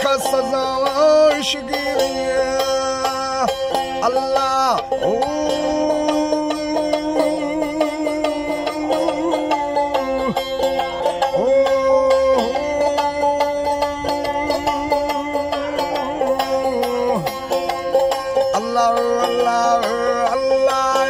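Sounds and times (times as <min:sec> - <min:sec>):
folk music on plucked strings: 0:00.0 - 0:21.0.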